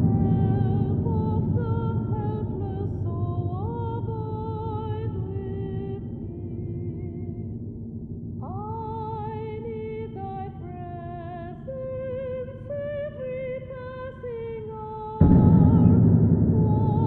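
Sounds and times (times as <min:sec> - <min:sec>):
high voice singing with vibrato: 0:00.0 - 0:07.5, 0:08.4 - 0:17.0.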